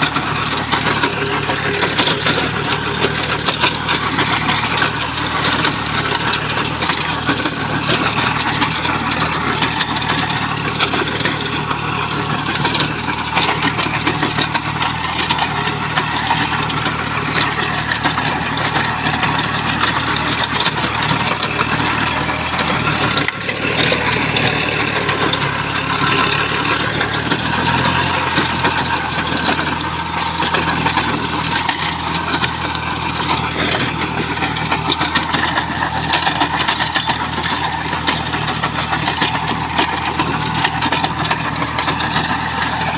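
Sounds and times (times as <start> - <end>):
mechanical clatter: 0.0 - 42.9
tractor diesel engine running: 0.0 - 42.9.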